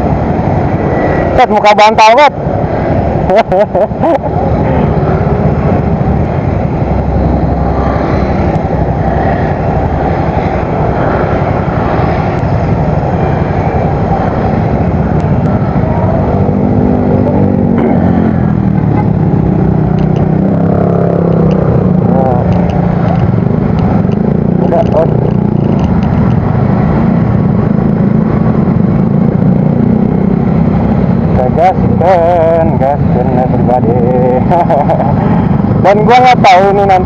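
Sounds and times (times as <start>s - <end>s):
wind rush: 0.0s - 37.0s.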